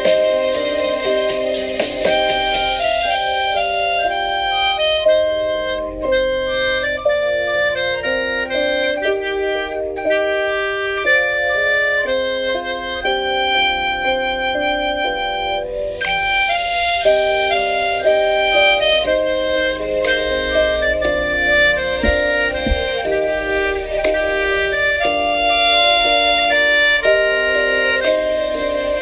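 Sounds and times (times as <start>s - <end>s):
melodica playing slow melody: 0.0s - 29.0s.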